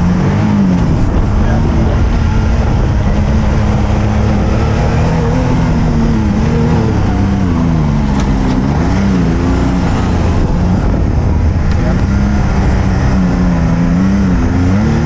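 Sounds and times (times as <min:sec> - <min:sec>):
low drivetrain rumble: 0:00.0 - 0:15.0
off-road vehicle engine revving: 0:00.0 - 0:15.0.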